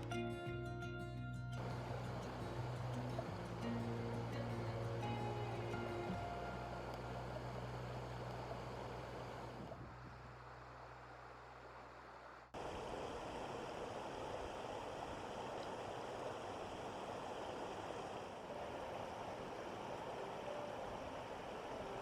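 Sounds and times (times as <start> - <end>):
low steady hum: 0.0 - 22.0
river water flowing: 0.0 - 22.0.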